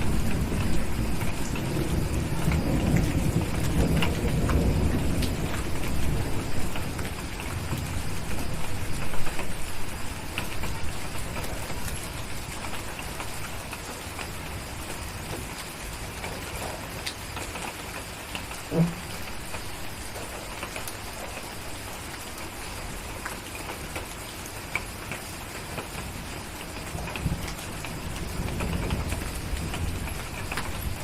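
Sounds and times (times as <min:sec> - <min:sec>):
small crackles and clicks: 0:00.0 - 0:31.0
steady rain: 0:00.0 - 0:31.0.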